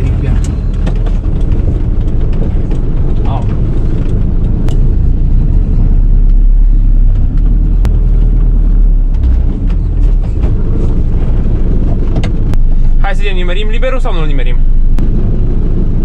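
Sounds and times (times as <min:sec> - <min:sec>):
van engine running at low revs: 0:00.0 - 0:16.0.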